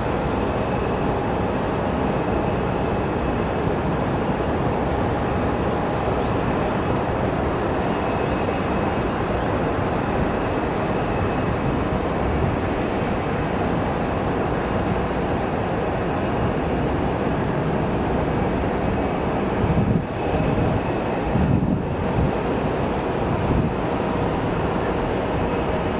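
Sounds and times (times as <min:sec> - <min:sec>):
jet engines running with whine: 0:00.0 - 0:25.9.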